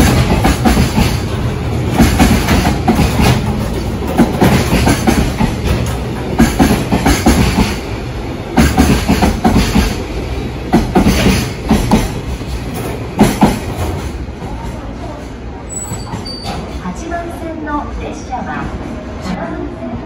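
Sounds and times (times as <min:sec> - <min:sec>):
train wheels clattering over rail joints: 0:00.0 - 0:07.9, 0:08.5 - 0:16.8
low train rumble: 0:00.0 - 0:20.0.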